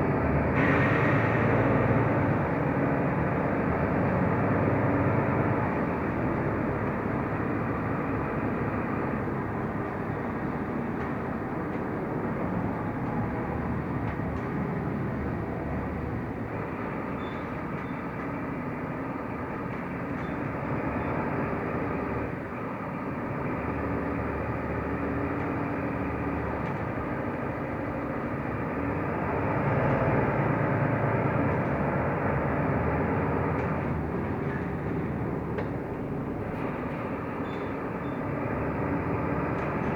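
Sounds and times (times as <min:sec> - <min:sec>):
bus engine and road noise: 0:00.0 - 0:39.9.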